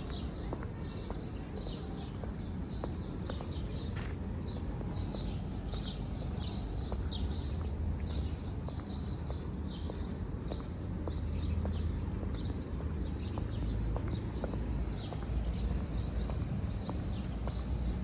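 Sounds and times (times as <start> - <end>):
footsteps on a hard path: 0.0 - 18.0
small birds chirping: 0.0 - 18.0.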